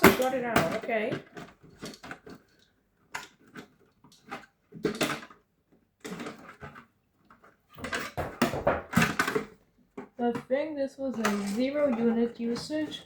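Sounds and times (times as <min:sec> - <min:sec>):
plastic parts knocking and rattling: 0:00.0 - 0:13.0.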